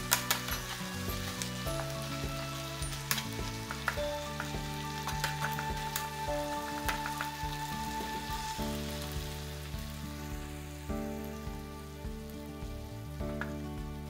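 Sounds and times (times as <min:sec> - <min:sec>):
food sizzling in a frying pan: 0:00.0 - 0:14.0
soft background music: 0:00.0 - 0:14.0.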